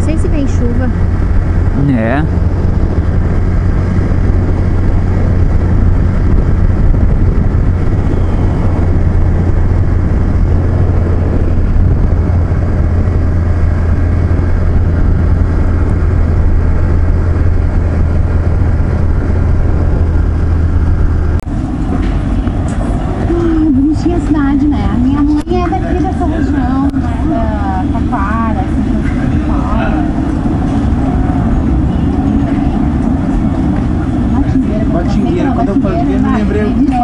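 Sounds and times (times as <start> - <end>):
motorcycle engine drone: 0.0 - 37.0
wind rush on microphone: 0.0 - 37.0.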